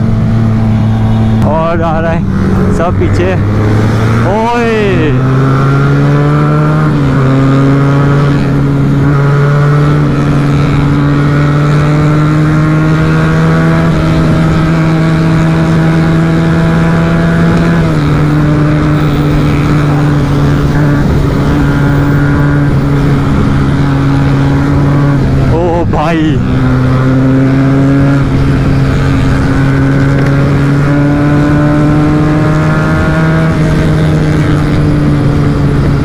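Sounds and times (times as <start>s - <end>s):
motorcycle engine accelerating: 0.0s - 36.0s
wind rush: 0.0s - 36.0s.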